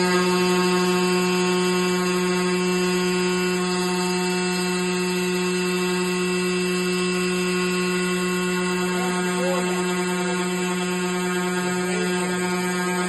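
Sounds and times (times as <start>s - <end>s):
glass washing machine hum: 0.0s - 13.0s.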